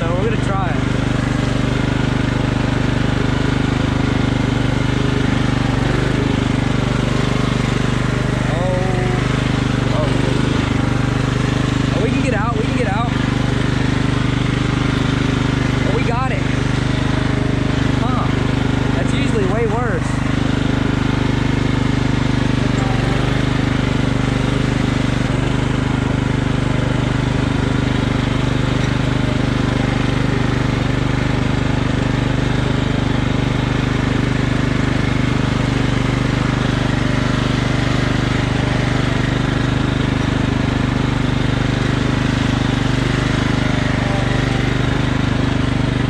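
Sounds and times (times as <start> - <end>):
riding lawn mower engine running: 0.0 - 46.0.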